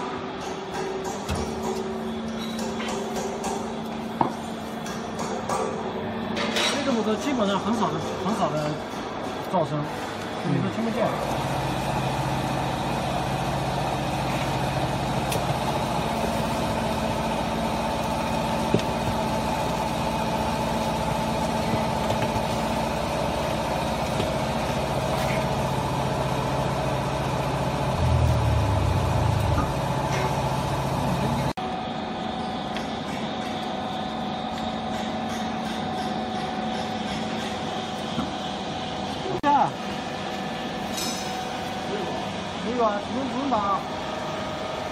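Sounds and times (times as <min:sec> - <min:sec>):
hydraulic power unit humming: 0:00.0 - 0:44.9.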